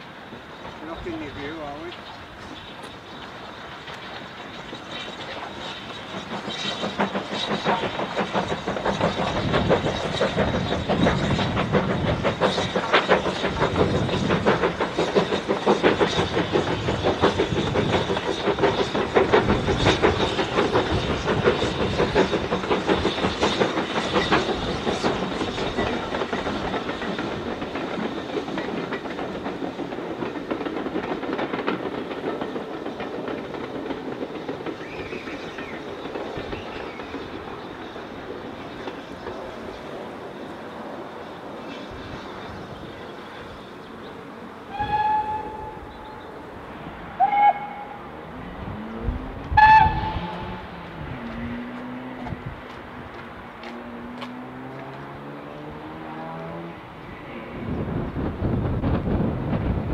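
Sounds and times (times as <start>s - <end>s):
steam locomotive exhaust beats: 0.0s - 59.9s
train coaches rolling past: 0.0s - 59.9s.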